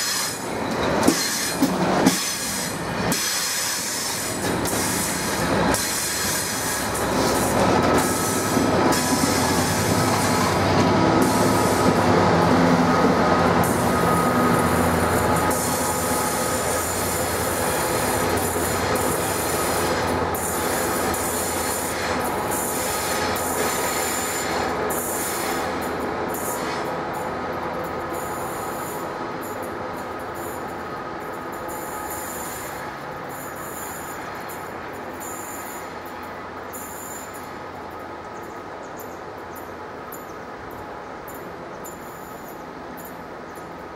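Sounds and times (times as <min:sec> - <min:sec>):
diesel locomotive working hard: 0:00.0 - 0:43.9
train wheels squealing on track: 0:00.0 - 0:43.9.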